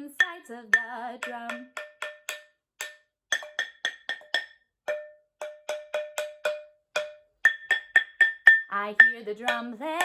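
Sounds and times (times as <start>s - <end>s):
drum tapped with ringing notes: 0.0s - 10.0s.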